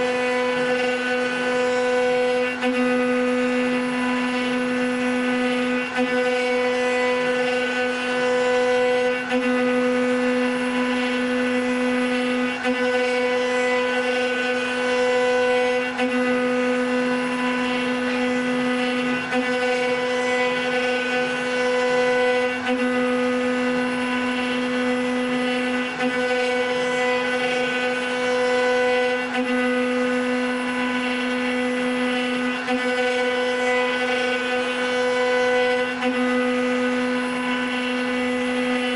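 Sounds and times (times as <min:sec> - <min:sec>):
router spindle whine: 0:00.0 - 0:38.9
wood cutting noise: 0:00.0 - 0:38.9.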